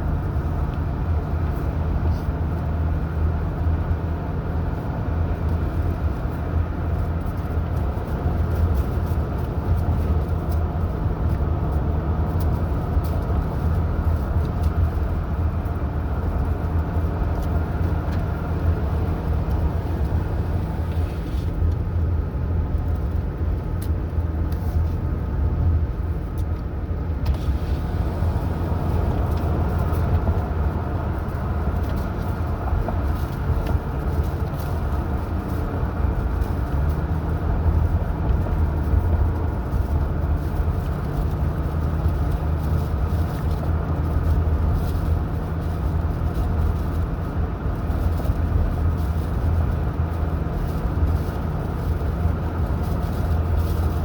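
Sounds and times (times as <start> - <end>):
car driving: 0.0 - 54.0.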